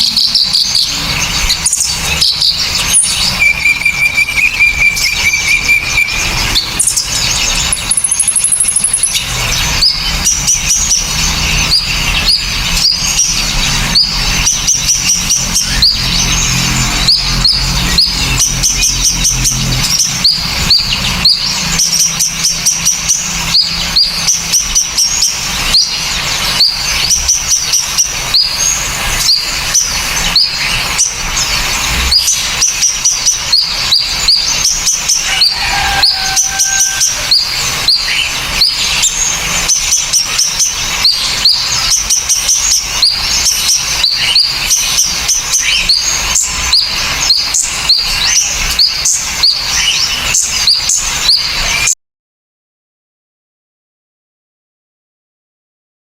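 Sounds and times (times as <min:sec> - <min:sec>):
songbirds chirping and whistling: 0:00.0 - 0:52.0.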